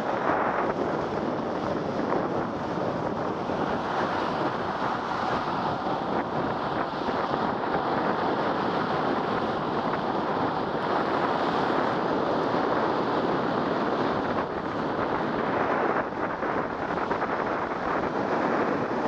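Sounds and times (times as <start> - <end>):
longboard wheels rolling on asphalt: 0.0 - 19.0
wind rushing over microphone: 0.0 - 19.0.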